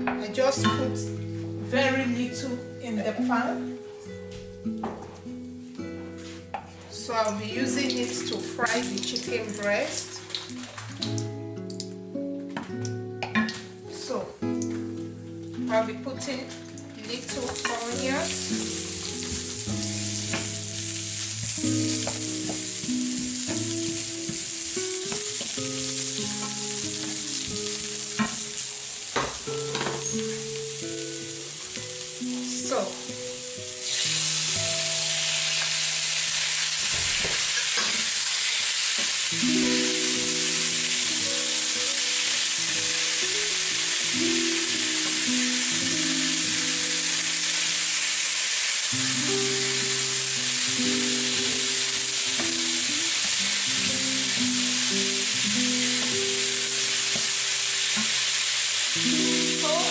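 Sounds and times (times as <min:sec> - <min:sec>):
soft background music: 0:00.0 - 0:37.2, 0:38.8 - 0:59.9
onions sizzling in a pan: 0:04.7 - 0:12.2, 0:12.9 - 0:59.9.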